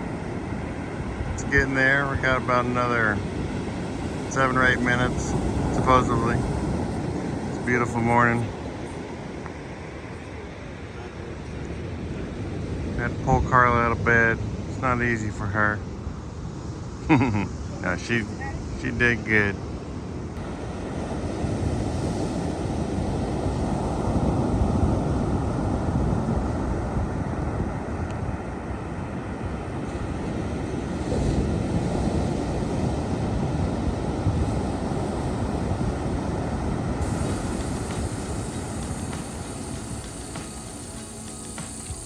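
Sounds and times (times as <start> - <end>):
ocean surf rushing: 0.0 - 42.0
wind buffeting microphone: 0.0 - 42.0.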